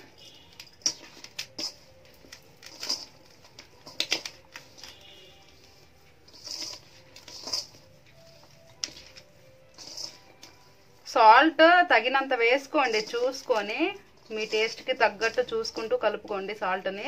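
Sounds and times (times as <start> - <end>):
rice rustling and squishing: 0.0 - 17.0.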